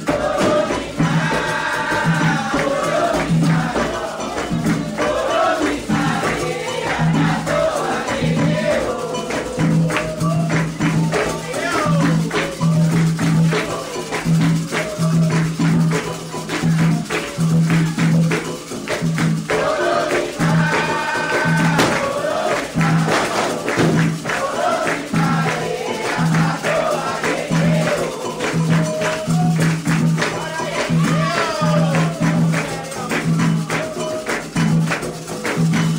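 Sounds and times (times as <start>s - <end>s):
hand drums playing: 0.0s - 35.9s
sharp percussion: 0.0s - 35.9s
voices singing a chant: 0.0s - 35.9s.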